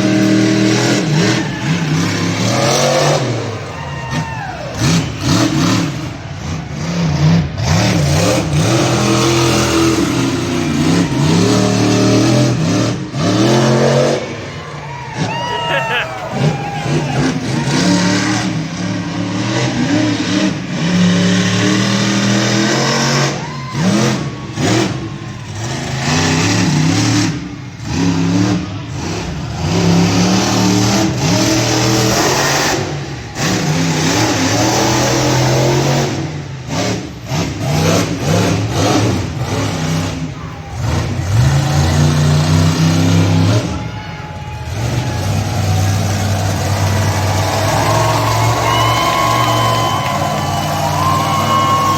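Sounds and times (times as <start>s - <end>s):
truck engine revving hard: 0.0s - 51.9s.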